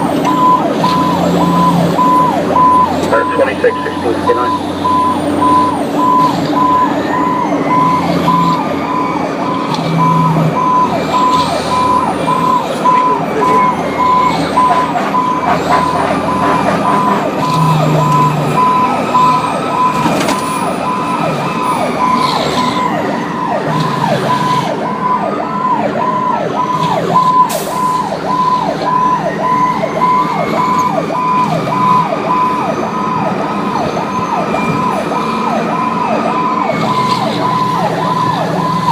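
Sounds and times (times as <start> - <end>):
electronic siren yelping: 0.0 - 38.9
fire truck engine: 0.0 - 38.9
siren wailing: 0.0 - 38.9.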